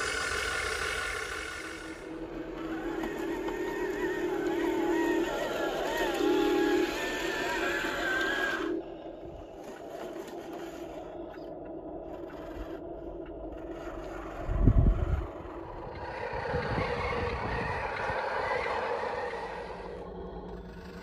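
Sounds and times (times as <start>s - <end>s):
gravel scraping: 0.0s - 21.0s
small electric motors whirring: 0.0s - 21.0s.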